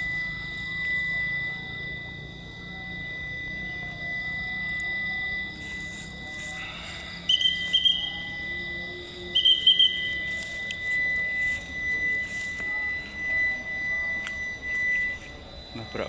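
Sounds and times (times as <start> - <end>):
steady high-pitched tone: 0.0 - 16.0
trilling whistle blasts: 0.0 - 16.0.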